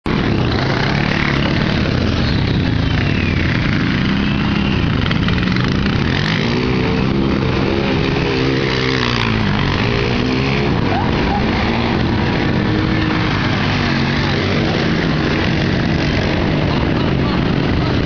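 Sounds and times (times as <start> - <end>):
atv engines revving: 0.0 - 18.0.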